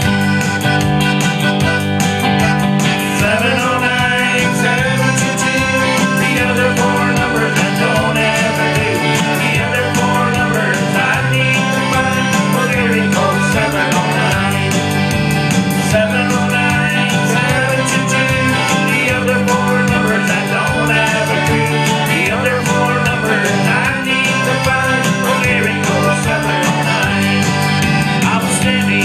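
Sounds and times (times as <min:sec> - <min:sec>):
live country band: 0:00.0 - 0:29.0.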